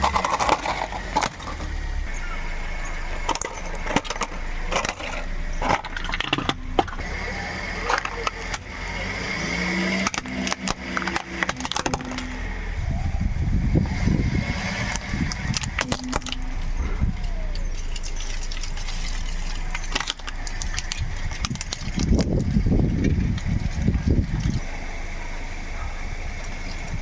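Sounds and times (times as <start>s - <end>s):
objects crunching under car: 0.0s - 12.8s, 13.4s - 27.0s
car engine and tyres rumbling: 0.0s - 27.0s.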